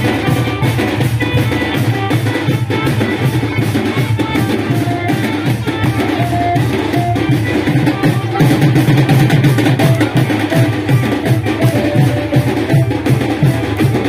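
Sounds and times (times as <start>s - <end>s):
driving drum beat: 0.0s - 14.0s
held melody notes: 0.0s - 14.0s.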